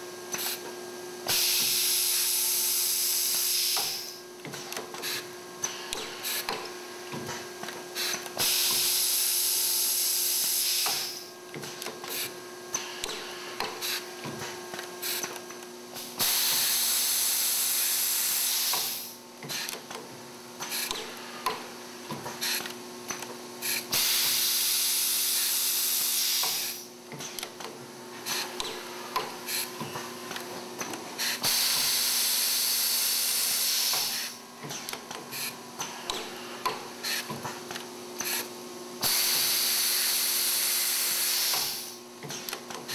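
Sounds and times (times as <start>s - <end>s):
pneumatic clicks and knocks: 0.3s - 2.4s, 3.2s - 9.3s, 9.9s - 17.3s, 18.3s - 42.9s.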